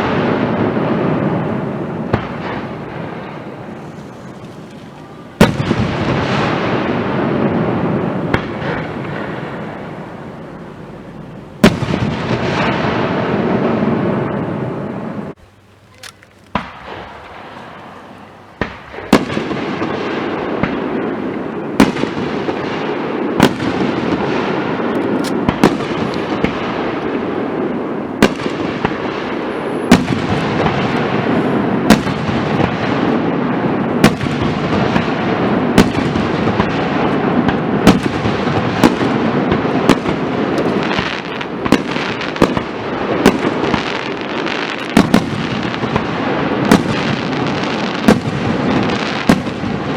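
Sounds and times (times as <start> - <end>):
firework bangs: 0.0 - 49.9
rumbling crackle of fireworks: 0.0 - 49.9.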